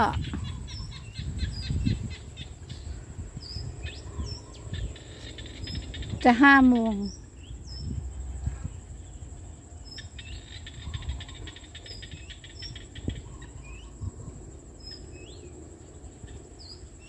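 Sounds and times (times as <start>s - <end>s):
frogs chirping: 0.0s - 17.0s
frogs pulsed trill: 0.0s - 17.0s
wind rumble on microphone: 0.0s - 17.0s.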